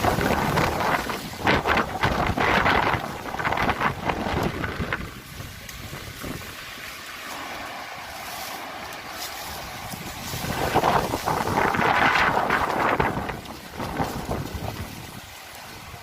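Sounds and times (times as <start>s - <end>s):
wind buffeting microphone: 0.0s - 16.0s
wind gusting through trees: 0.0s - 16.0s.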